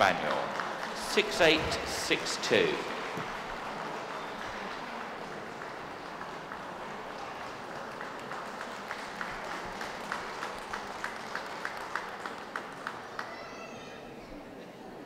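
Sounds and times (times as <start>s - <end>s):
sharp evenly spaced handclaps: 0.0s - 13.4s
audience applause: 0.0s - 14.1s.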